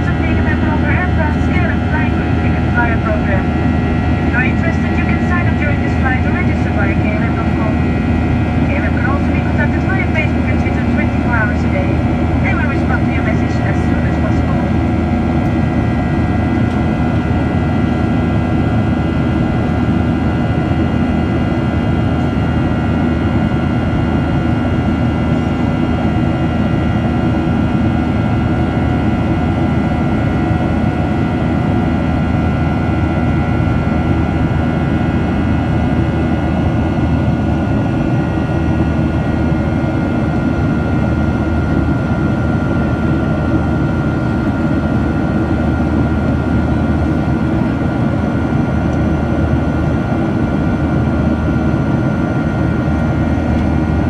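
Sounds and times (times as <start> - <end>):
high engine whine: 0.0 - 54.0
jet cabin engine rumble: 0.0 - 54.0.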